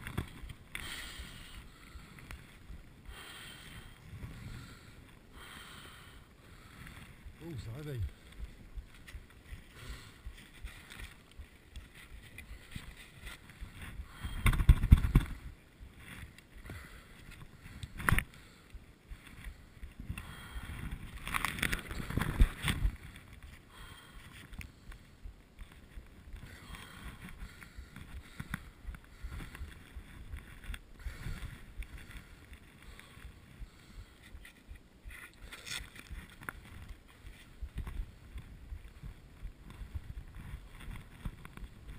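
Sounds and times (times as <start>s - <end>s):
muffled rustling and scraping in snow: 0.0s - 5.3s, 6.2s - 41.9s.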